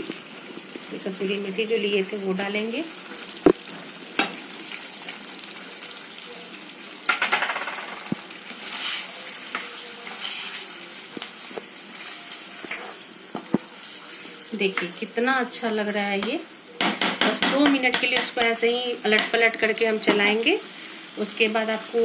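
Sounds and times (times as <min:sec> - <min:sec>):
gravy sizzling in a frying pan: 0:00.0 - 0:22.0.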